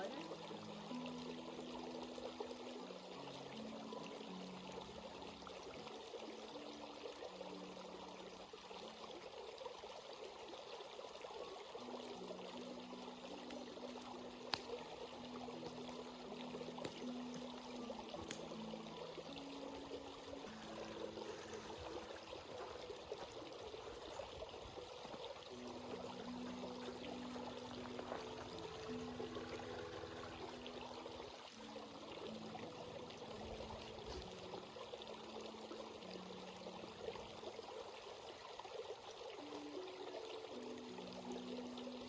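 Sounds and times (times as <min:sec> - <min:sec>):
stream flowing over rocks: 0:00.0 - 0:42.0.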